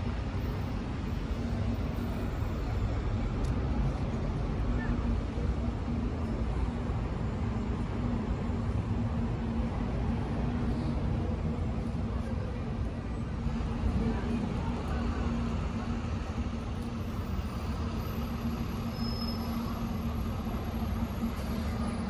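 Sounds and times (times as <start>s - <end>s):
passing vehicles rumbling: 0.0s - 22.0s.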